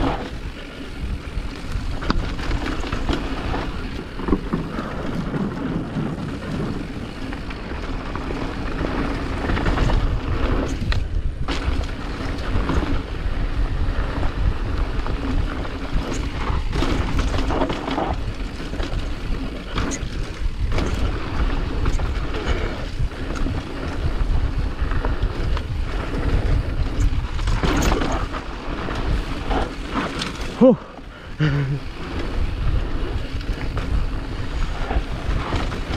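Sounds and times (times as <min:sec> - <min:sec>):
wind noise on microphone: 0:00.0 - 0:30.6, 0:31.2 - 0:35.9.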